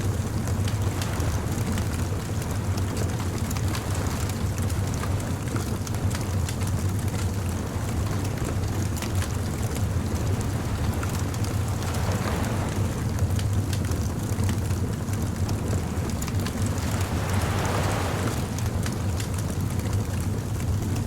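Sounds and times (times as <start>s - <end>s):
surf: 0.0s - 21.0s
wind: 0.0s - 21.0s
wood fire crackling: 0.4s - 3.1s, 3.7s - 20.9s.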